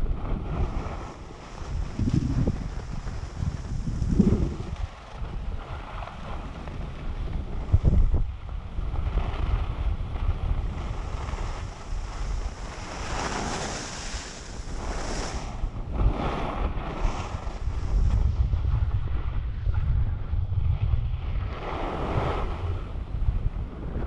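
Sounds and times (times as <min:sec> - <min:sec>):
skis scraping on snow: 0:00.0 - 0:19.8, 0:20.6 - 0:24.0
wind buffeting microphone: 0:00.0 - 0:24.0.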